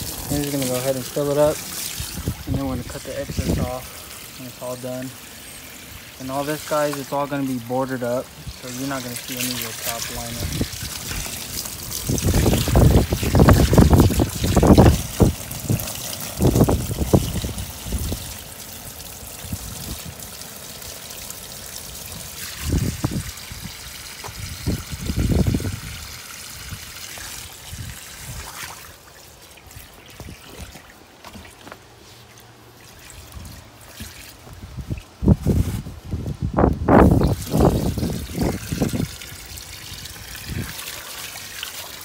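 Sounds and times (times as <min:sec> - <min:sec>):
water splashing into a pond: 0:00.0 - 0:35.9, 0:36.8 - 0:42.0.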